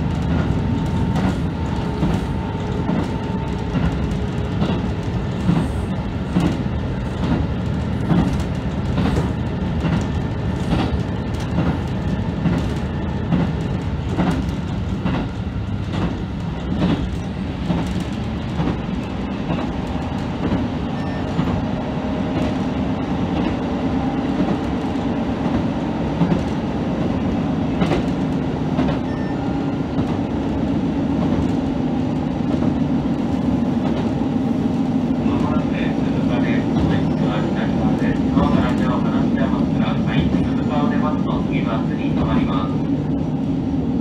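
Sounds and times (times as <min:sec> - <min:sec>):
railcar running drone: 0:00.0 - 0:44.0.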